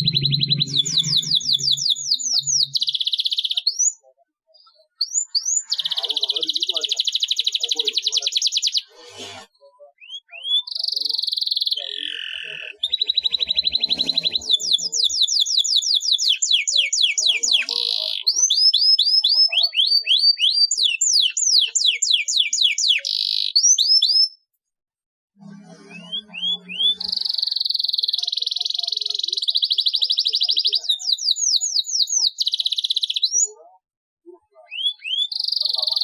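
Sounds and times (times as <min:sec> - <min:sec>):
canary singing trills: 0:00.0 - 0:09.2, 0:09.8 - 0:24.4, 0:25.4 - 0:33.8, 0:34.4 - 0:36.0.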